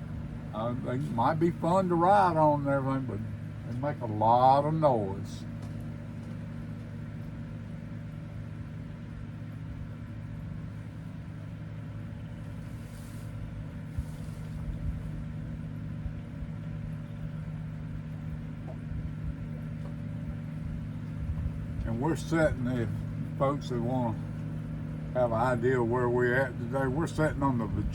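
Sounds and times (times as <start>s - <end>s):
distant airboat engine drone: 0.0s - 27.9s.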